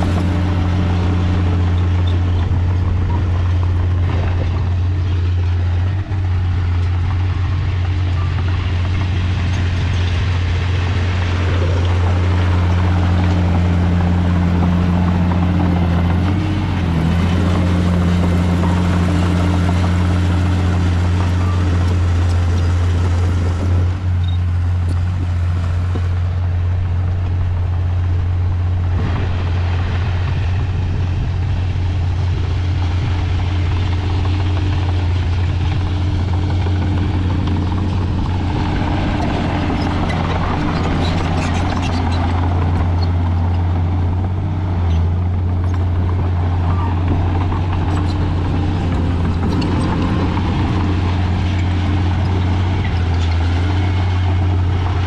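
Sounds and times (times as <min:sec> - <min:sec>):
diesel machinery engine hum: 0:00.0 - 0:55.0.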